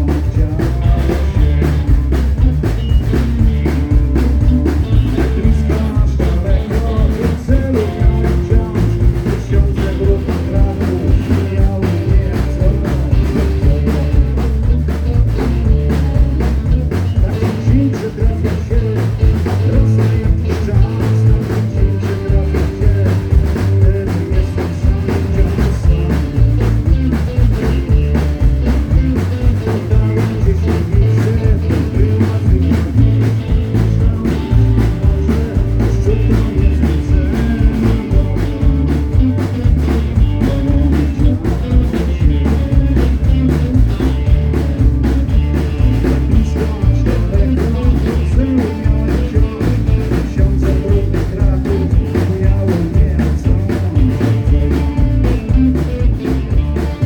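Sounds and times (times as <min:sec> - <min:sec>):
drum kit beat: 0:00.0 - 0:57.0
person singing: 0:00.0 - 0:57.0
rock band playing: 0:00.0 - 0:57.0.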